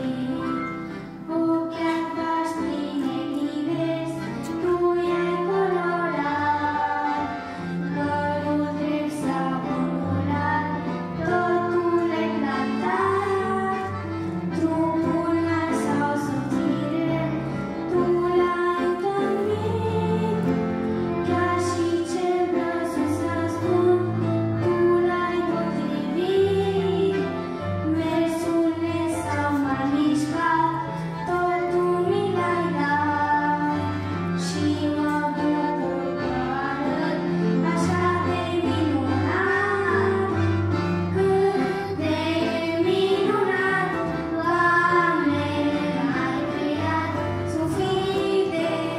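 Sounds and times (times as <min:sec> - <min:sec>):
children singing: 0:00.0 - 0:48.9
instrumental accompaniment: 0:00.0 - 0:48.9.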